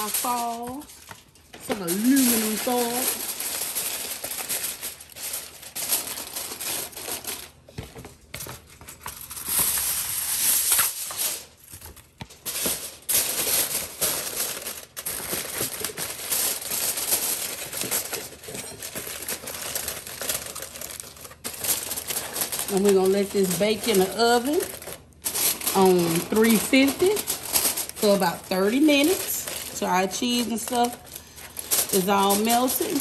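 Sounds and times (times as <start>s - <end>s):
aluminium foil crinkling: 0.0s - 33.0s.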